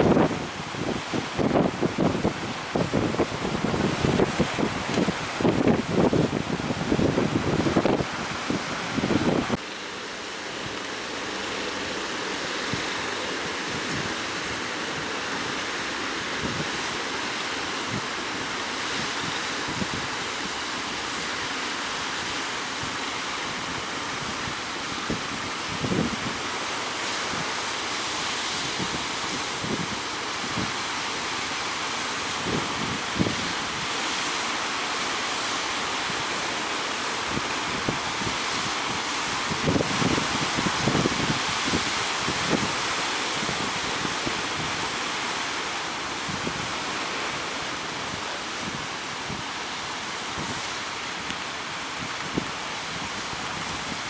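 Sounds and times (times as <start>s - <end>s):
ocean surf breaking: 0.0s - 54.0s
wind buffeting microphone: 0.0s - 54.0s.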